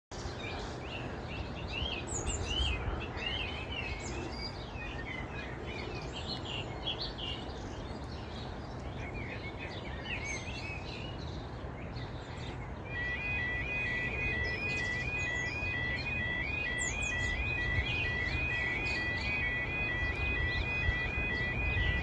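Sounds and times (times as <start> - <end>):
outdoor background noise: 0.1 - 22.0
songbirds singing and chirping: 0.1 - 22.0.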